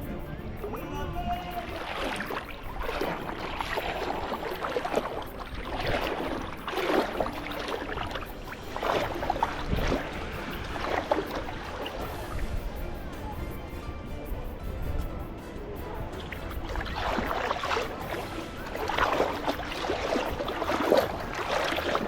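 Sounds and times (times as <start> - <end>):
small waves washing onto beach: 0.0 - 22.0.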